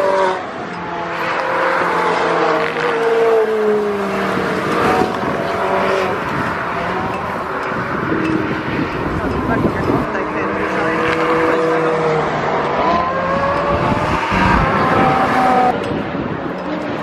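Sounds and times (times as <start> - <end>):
sports car driving past: 0.0 - 16.2.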